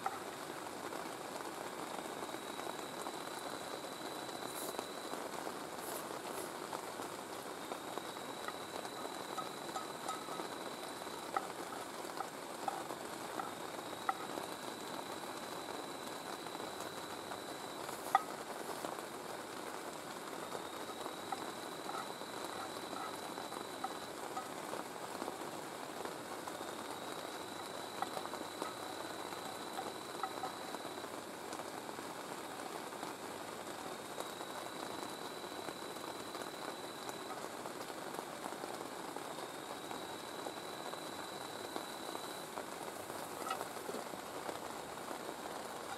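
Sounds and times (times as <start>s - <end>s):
rain falling on a tent: 0.0s - 45.9s.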